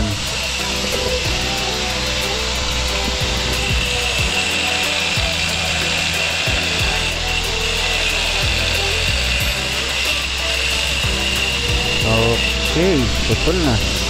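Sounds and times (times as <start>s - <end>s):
angle grinder cutting steel: 0.0s - 14.0s.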